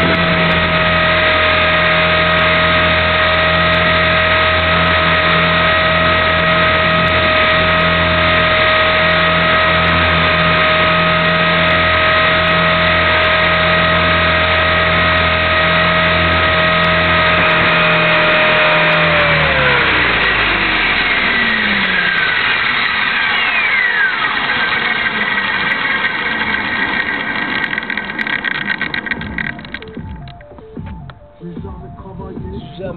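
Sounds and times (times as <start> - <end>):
rotor spooling down: 0.0 - 31.9
rc helicopter whine: 0.0 - 32.7.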